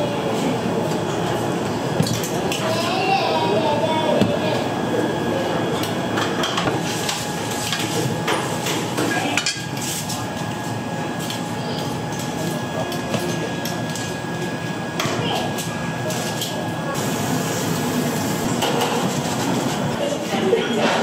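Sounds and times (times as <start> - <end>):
kitchen background noise: 0.0 - 21.0.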